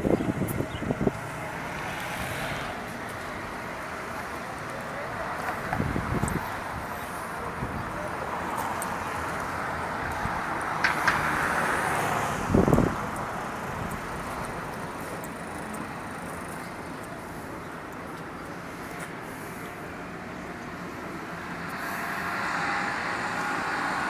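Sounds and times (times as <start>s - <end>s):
traffic hum: 0.0s - 24.0s.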